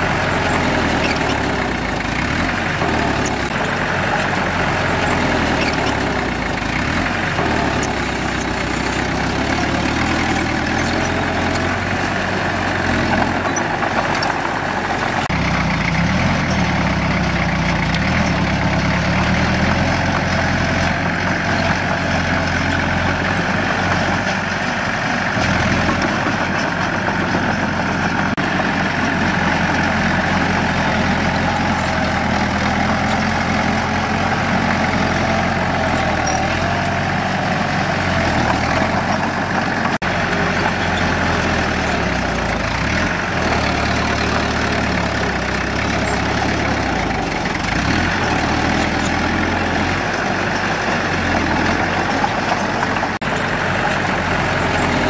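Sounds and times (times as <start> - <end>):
heavy machinery diesel engine running: 0.0 - 55.0.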